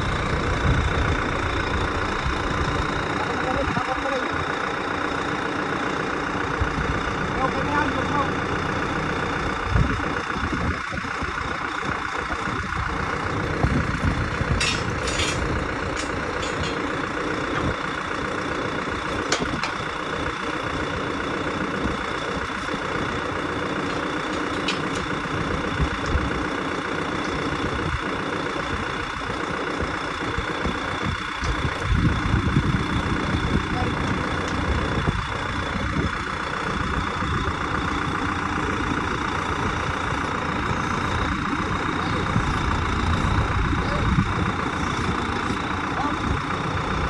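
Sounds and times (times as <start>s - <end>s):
tractor diesel engine idling: 0.0s - 47.0s.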